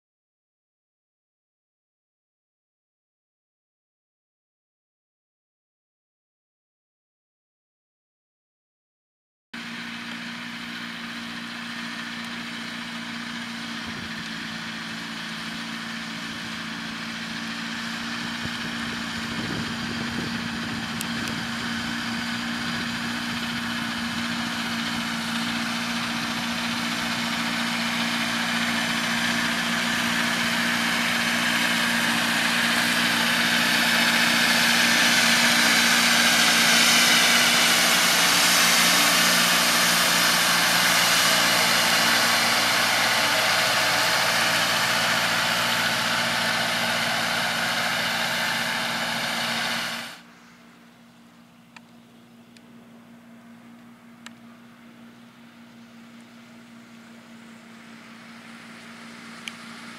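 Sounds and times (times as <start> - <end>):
tractor diesel engine: 9.6 - 51.5, 52.6 - 59.9.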